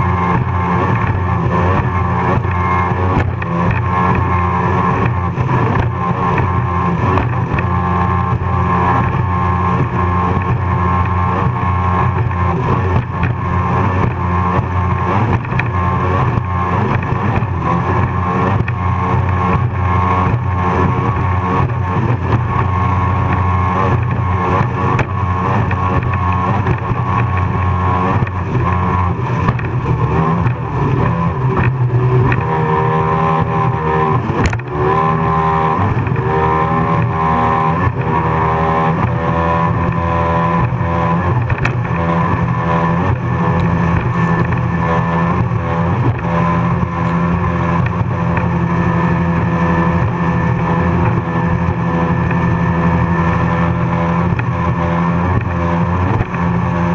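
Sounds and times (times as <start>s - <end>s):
powerboat engine at high speed: 0.0s - 56.9s
rushing wind and water: 0.0s - 56.9s.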